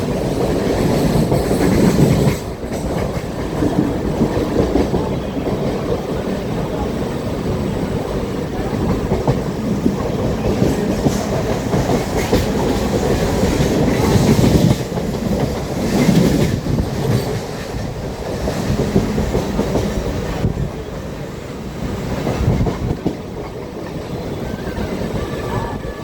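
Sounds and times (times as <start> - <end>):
train wheels clattering on rail joints: 0.0 - 7.4, 8.1 - 21.0, 21.8 - 24.6.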